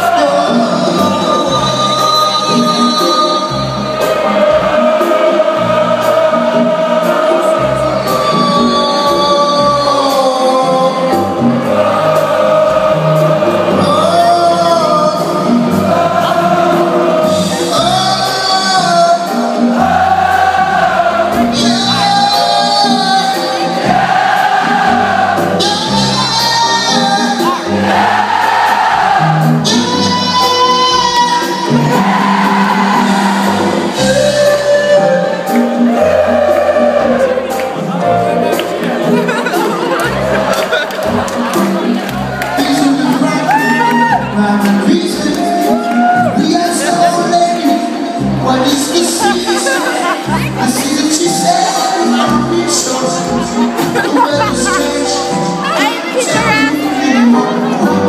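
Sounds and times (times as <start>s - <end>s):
live band music: 0.0s - 58.0s.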